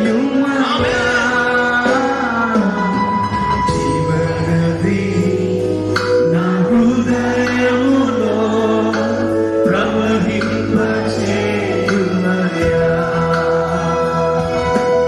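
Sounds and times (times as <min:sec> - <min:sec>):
men singing worship song: 0:00.0 - 0:03.1, 0:03.7 - 0:15.0
musical accompaniment: 0:00.0 - 0:15.0.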